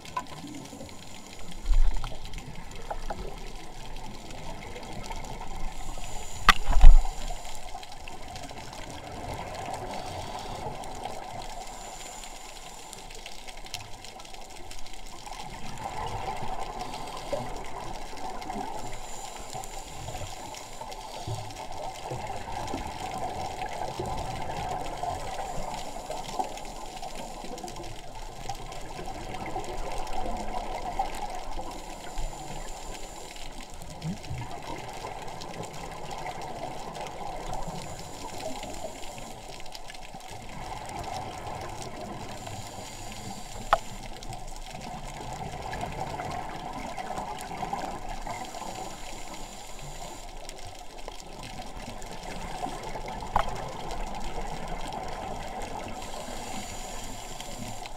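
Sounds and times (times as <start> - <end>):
faint high hiss: 0.0 - 34.0, 34.6 - 57.9
underwater rush of water: 0.0 - 57.9.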